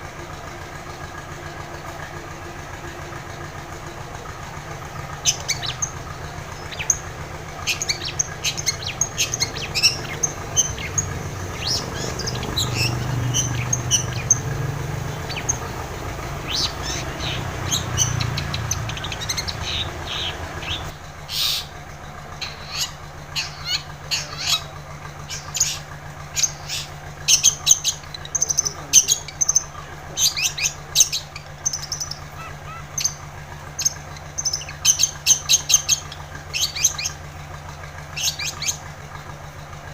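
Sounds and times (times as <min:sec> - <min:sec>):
bird singing sharp chirps: 0:04.8 - 0:37.3, 0:38.1 - 0:39.3.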